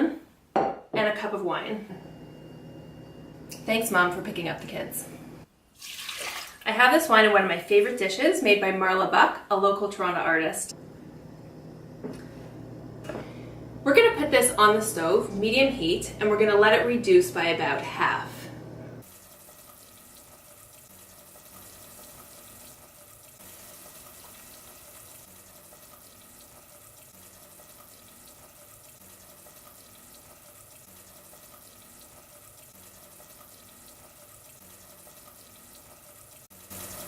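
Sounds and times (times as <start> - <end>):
wine simmering in a saucepan: 2.0 - 6.7, 10.7 - 37.0.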